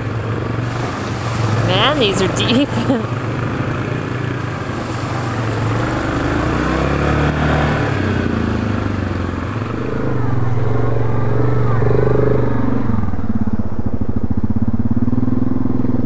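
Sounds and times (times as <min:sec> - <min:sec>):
atv engine revving: 0:00.0 - 0:16.0.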